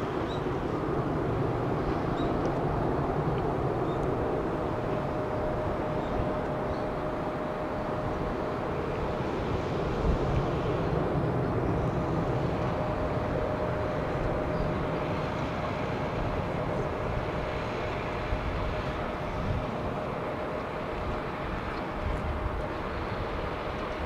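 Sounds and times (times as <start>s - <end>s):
distant jet roar: 0.0s - 24.0s
faint jet whine: 0.0s - 24.0s.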